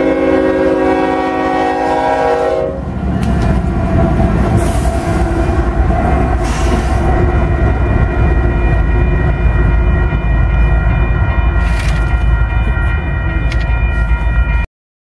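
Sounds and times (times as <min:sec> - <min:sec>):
train wheels rumbling on rails: 0:00.0 - 0:14.7.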